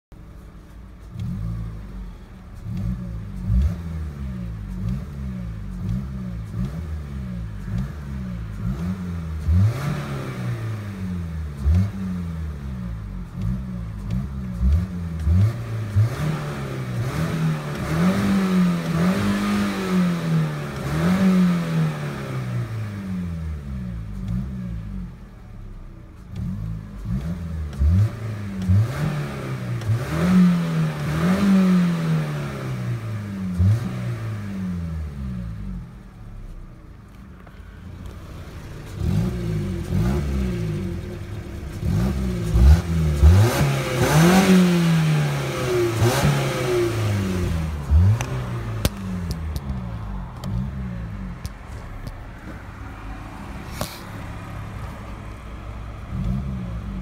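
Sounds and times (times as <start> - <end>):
car engine revving: 0.1 - 57.0.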